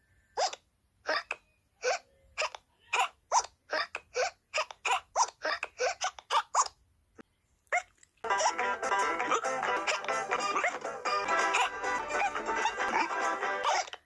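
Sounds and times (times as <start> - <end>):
cartoon squeaky hiccups: 0.4 - 6.8, 7.7 - 14.0.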